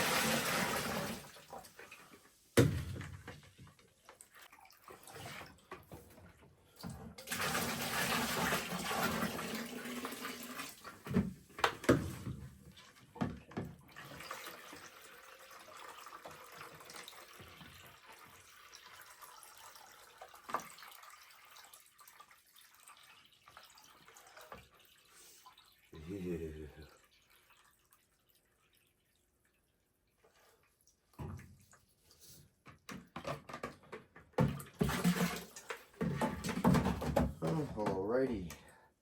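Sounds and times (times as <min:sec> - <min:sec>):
steady water sound: 0:00.0 - 0:11.1, 0:12.1 - 0:32.7
water pouring into washing machine: 0:00.0 - 0:31.7, 0:34.3 - 0:38.4.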